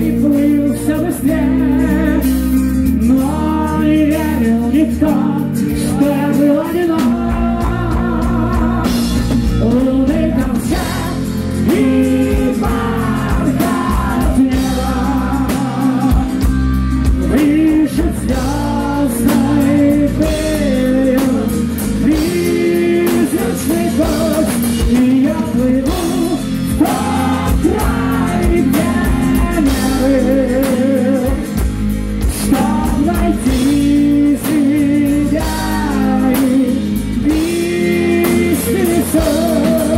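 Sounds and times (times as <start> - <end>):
heavy metal band playing live: 0.0 - 39.9
man singing with vibrato: 0.0 - 39.9.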